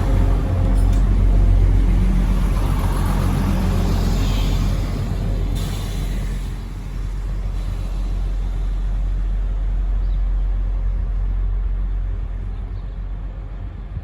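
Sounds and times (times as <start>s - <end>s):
train diesel engines rumbling: 0.0s - 14.0s.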